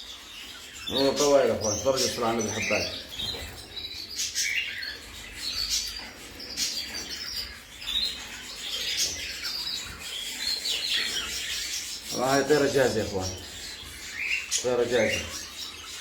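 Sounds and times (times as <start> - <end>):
canaries chirping: 0.0 - 16.0.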